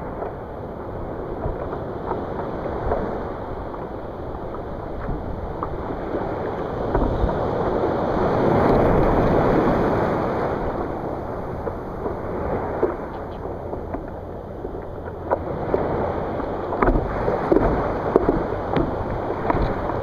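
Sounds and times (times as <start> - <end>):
surf waves washing on sand: 0.0 - 20.0
water splashing at microphone: 0.0 - 20.0.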